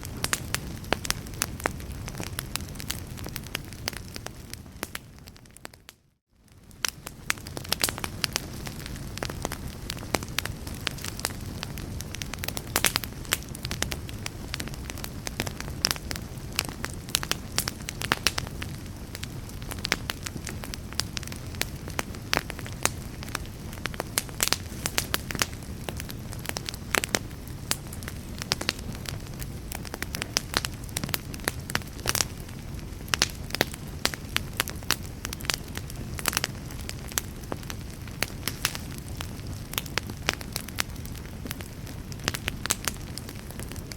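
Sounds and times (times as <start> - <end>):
low rumble of flame: 0.0 - 43.9
wood fire crackling and popping: 0.0 - 43.9.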